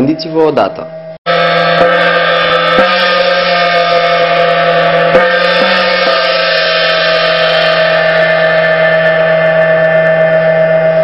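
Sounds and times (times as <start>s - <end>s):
gong struck with felt mallet: 1.3s - 11.0s.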